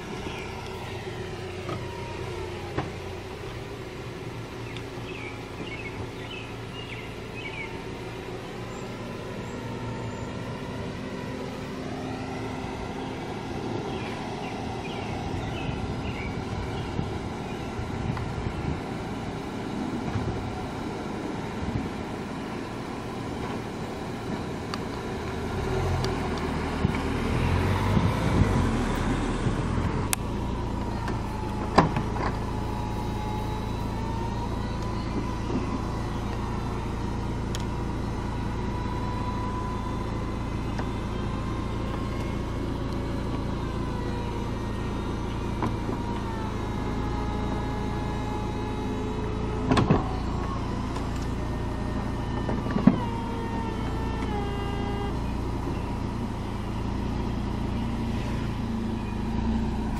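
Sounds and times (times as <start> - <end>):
motor hum with whine: 0.0 - 59.9.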